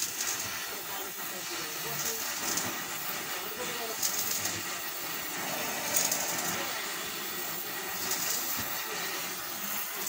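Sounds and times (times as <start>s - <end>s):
gas welding torch hissing: 0.0s - 10.0s.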